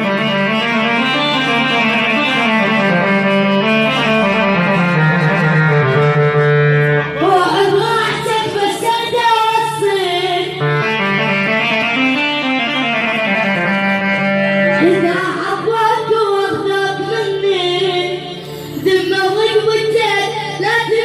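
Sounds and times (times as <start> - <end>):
instrumental backing of held notes: 0.0 - 21.0.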